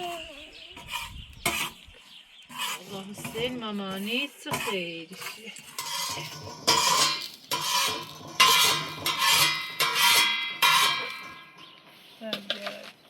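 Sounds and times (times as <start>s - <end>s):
harsh scraping strokes: 0.0s - 12.1s.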